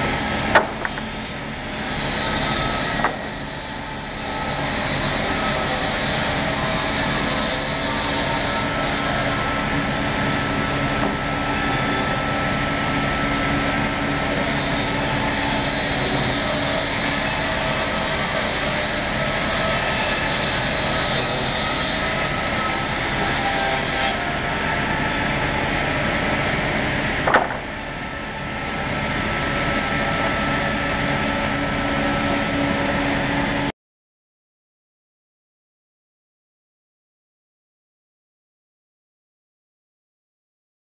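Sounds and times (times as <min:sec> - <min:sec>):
woodworking saw cutting timber: 0:00.0 - 0:33.7.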